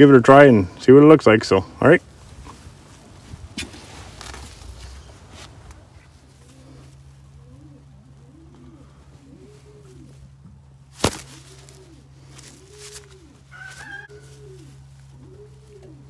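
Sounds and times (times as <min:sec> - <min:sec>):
steady low hum: 0:00.0 - 0:16.0
pigeons cooing: 0:02.0 - 0:16.0.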